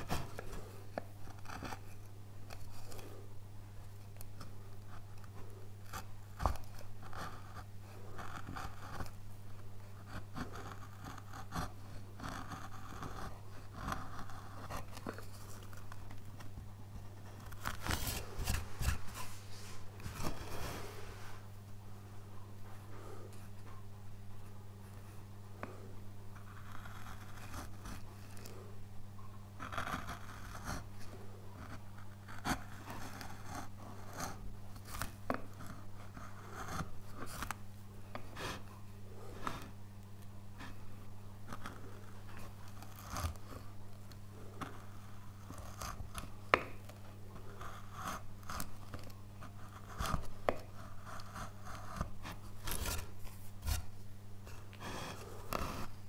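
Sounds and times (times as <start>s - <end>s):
chisel cutting and scraping wood: 0.0s - 3.2s, 3.9s - 21.0s, 26.4s - 28.6s, 29.6s - 39.8s, 41.5s - 56.0s
steady low hum: 0.0s - 56.0s.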